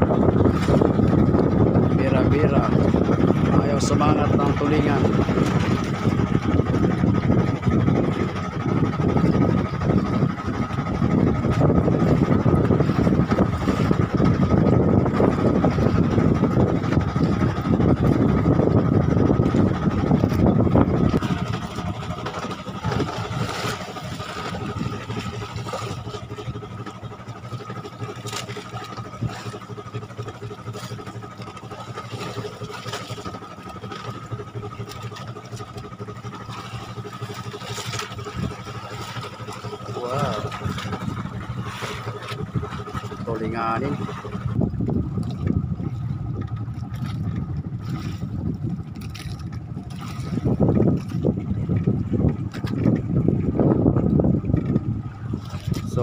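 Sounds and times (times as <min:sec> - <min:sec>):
boat engine whining: 0:00.0 - 0:56.0.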